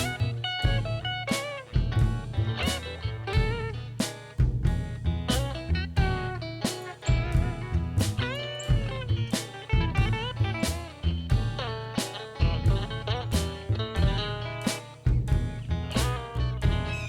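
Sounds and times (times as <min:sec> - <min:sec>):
guitar-led instrumental music: 0:00.0 - 0:17.0.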